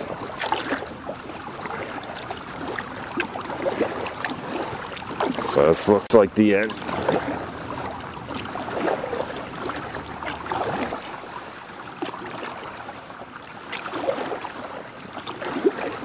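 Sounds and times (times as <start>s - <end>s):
paddle splashing in water: 0.0s - 16.0s
steady wash of water: 0.0s - 16.0s.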